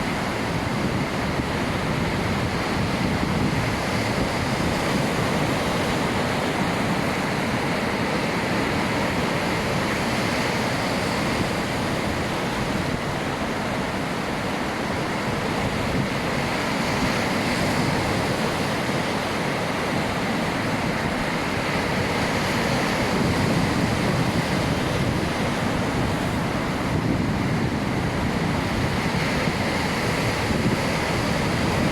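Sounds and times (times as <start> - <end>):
ocean waves washing in: 0.0 - 31.9.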